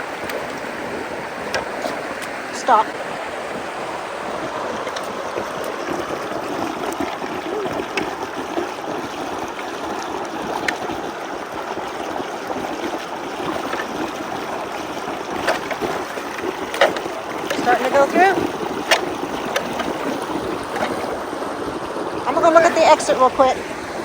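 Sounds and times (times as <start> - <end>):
water rushing and gurgling: 0.0 - 24.0.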